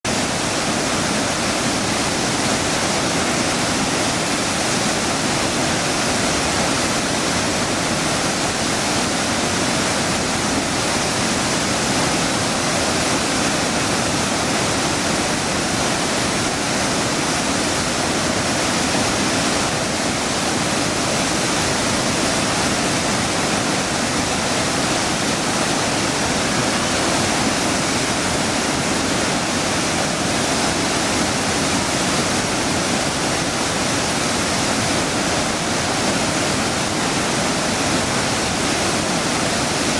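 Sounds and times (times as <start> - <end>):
water roaring from dam floodgates: 0.0 - 39.9.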